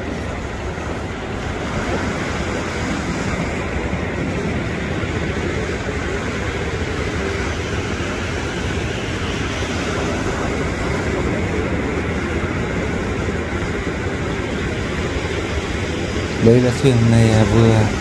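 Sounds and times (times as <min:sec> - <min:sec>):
sea surf breaking: 0:00.0 - 0:18.0.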